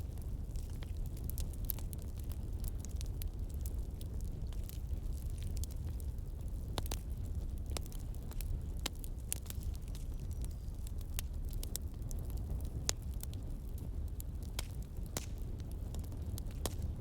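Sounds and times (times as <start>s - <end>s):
campfire crackling and popping: 0.0s - 17.0s
fire low rumble: 0.0s - 17.0s.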